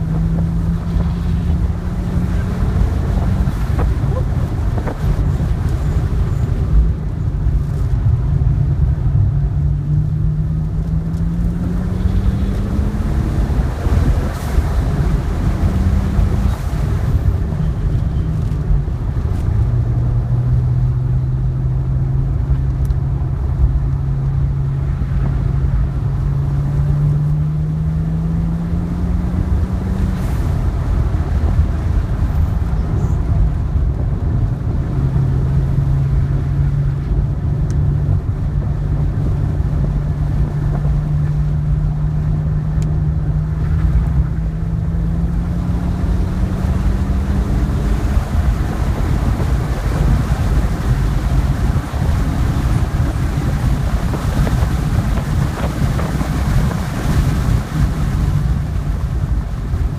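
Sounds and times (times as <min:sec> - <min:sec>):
car engine revving: 0:00.0 - 0:59.8
wind and tyre noise: 0:00.0 - 0:59.9.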